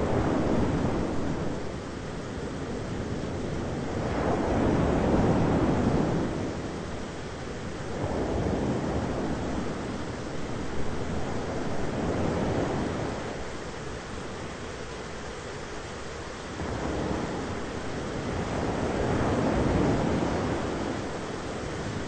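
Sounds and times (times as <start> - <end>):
rain: 0.0 - 22.0
wind: 0.0 - 22.0.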